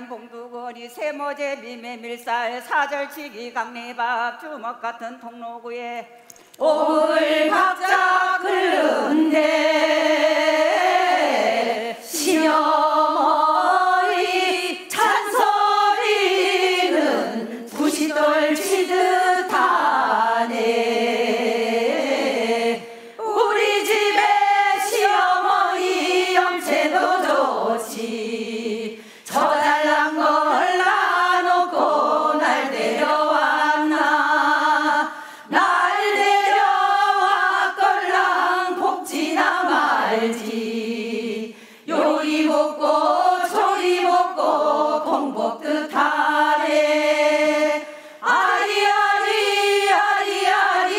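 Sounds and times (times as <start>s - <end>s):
women singing folk song: 6.0s - 50.9s.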